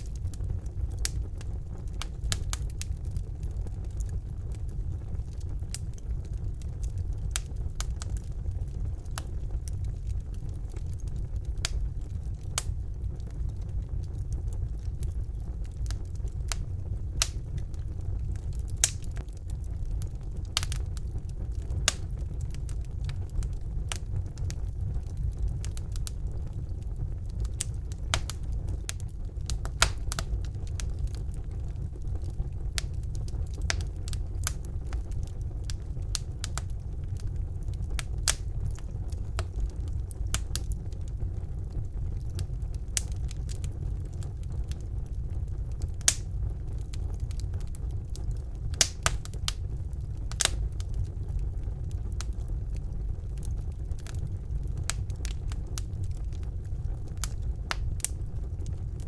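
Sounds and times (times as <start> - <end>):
fire crackles and pops: 0.0 - 59.0
fire flames rumbling: 0.0 - 59.0.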